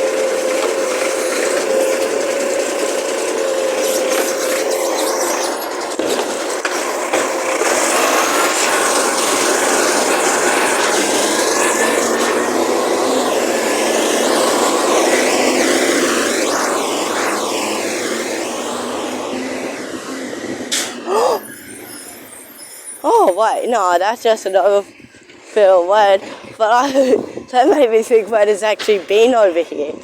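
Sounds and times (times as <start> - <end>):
garbage truck running: 0.0 - 30.0
mechanical whine: 0.0 - 30.0.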